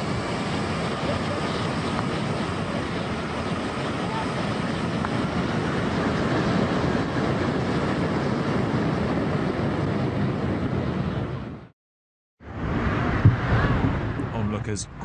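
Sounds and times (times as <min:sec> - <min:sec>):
jet engines roaring: 0:00.0 - 0:11.7, 0:12.4 - 0:15.0.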